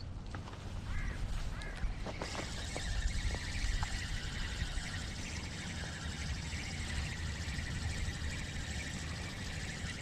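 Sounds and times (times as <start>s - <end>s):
wind buffeting microphone: 0.8s - 10.0s.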